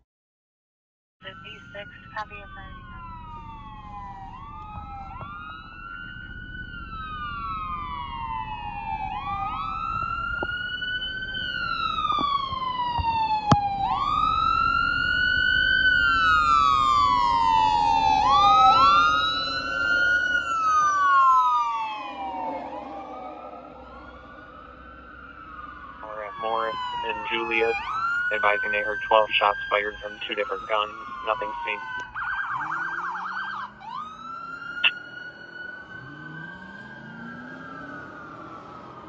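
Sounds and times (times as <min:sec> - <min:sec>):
fire engine siren wailing: 0:01.2 - 0:39.0
truck engine rumble: 0:01.3 - 0:39.0.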